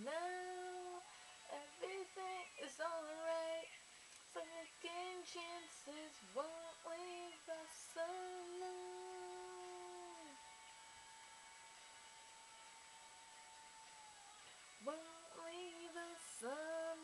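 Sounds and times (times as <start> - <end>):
woman singing: 0.0 - 10.8, 13.8 - 17.0.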